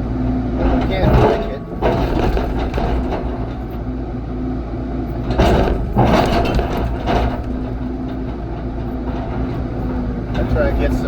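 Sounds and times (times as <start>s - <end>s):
heavy equipment engine running: 0.0s - 11.0s
machine scraping against rock: 0.6s - 3.9s, 5.2s - 11.0s.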